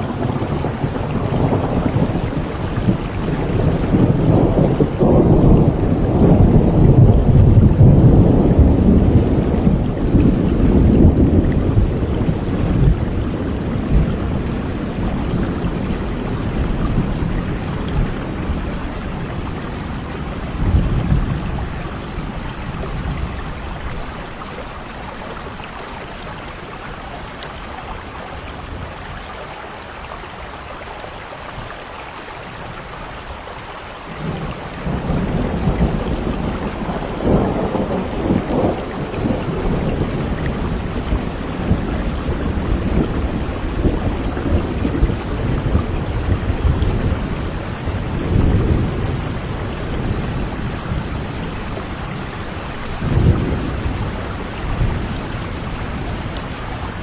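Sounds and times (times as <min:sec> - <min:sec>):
thunder rumbling: 0:00.0 - 0:29.4, 0:34.1 - 0:57.0
steady rain: 0:00.0 - 0:57.0.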